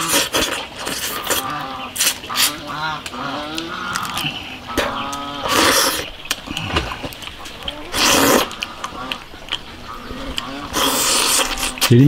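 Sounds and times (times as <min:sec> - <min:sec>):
person eating noisily: 0:00.0 - 0:12.0.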